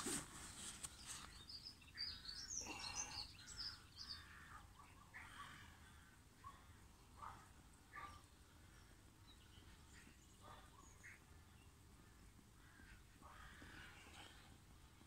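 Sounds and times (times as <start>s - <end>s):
songbird chirps and song: 0.2s - 15.0s.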